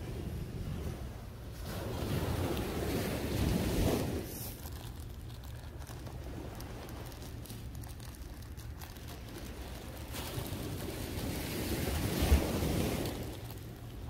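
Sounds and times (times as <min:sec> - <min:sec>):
waves washing on sandy beach: 0:00.0 - 0:14.0
wind rumble on microphone: 0:00.0 - 0:14.0.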